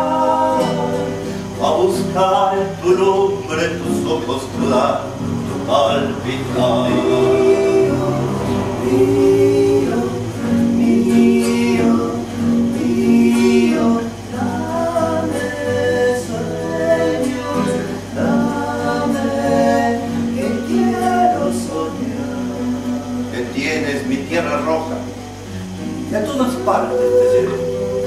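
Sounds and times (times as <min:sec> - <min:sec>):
group singing a cappella harmony: 0:00.0 - 0:28.0.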